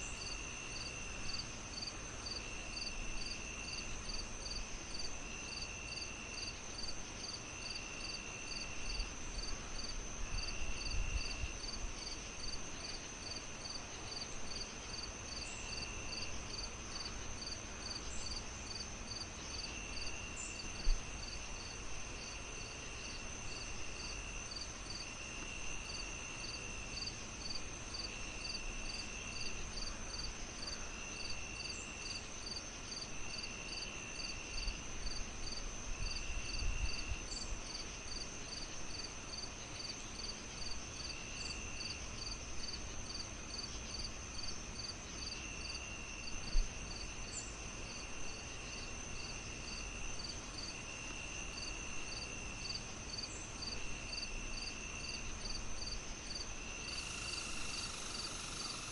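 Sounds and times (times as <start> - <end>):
crickets chirping: 0.0 - 58.9
high insect trill: 0.0 - 58.9
lower insect trill: 0.0 - 58.9.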